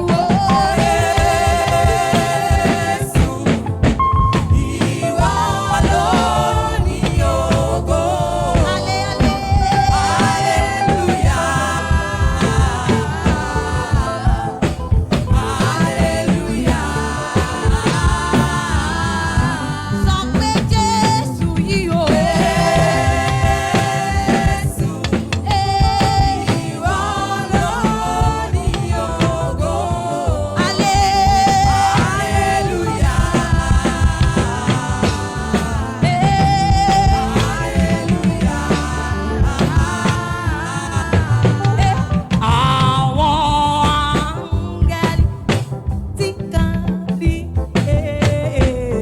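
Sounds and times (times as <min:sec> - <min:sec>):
band playing: 0:00.0 - 0:49.0
person singing: 0:00.0 - 0:49.0
steady drum beat: 0:00.0 - 0:49.0.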